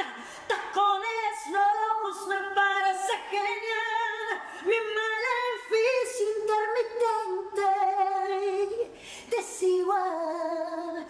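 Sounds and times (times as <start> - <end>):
woman singing a cappella: 0.0 - 11.0.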